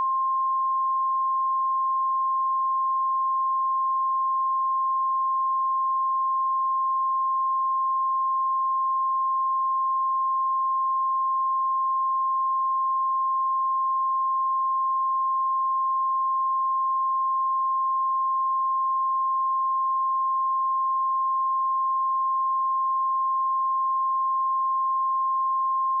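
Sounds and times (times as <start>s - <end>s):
sine-wave test tone: 0.0s - 26.0s.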